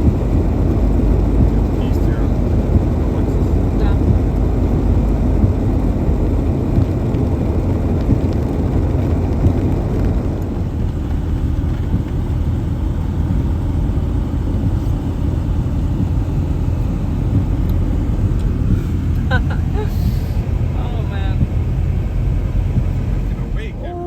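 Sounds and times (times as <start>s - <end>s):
vehicle engine rumbling: 0.0s - 24.0s.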